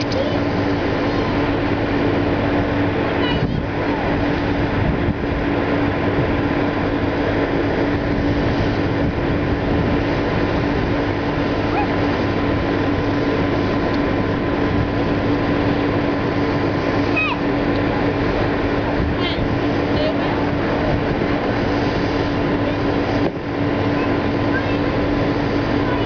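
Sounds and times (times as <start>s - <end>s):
steady rumble with low hum: 0.0s - 26.0s.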